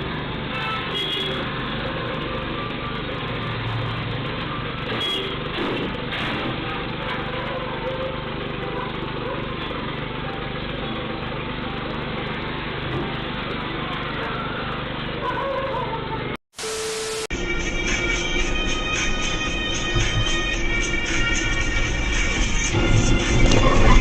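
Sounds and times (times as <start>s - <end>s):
vehicle engine and road noise: 0.0s - 16.4s, 17.3s - 24.0s.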